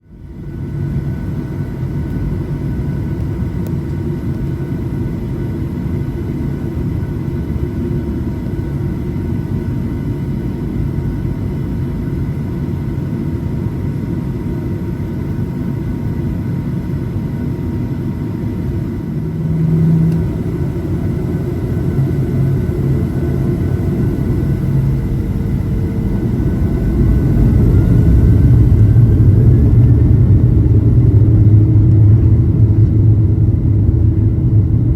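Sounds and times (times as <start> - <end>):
airliner engine cabin rumble: 0.0 - 34.9
engine whine: 0.0 - 34.9.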